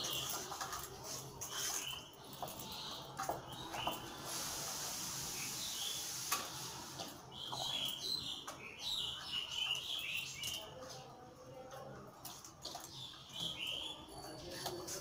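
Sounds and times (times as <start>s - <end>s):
small birds chirping: 0.0s - 4.4s, 5.1s - 15.0s.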